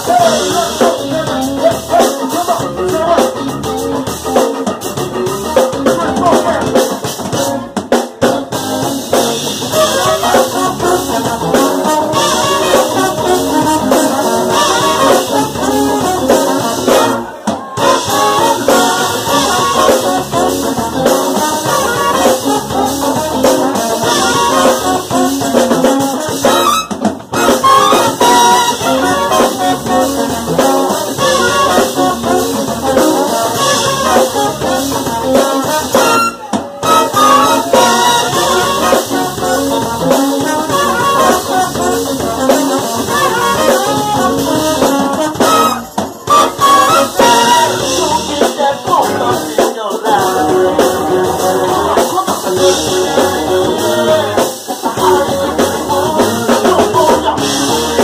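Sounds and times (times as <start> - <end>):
horn section playing: 0.0 - 49.4, 50.1 - 58.0
drum kit: 0.0 - 58.0.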